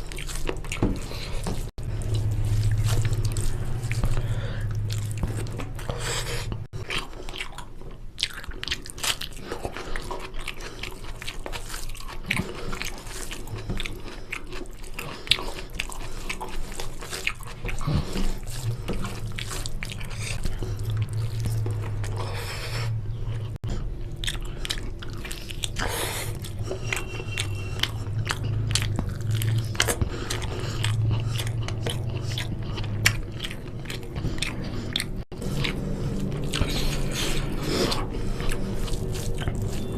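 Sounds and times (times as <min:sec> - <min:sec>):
person biting and chewing food: 0:00.0 - 0:39.9
steady low hum: 0:00.0 - 0:39.9.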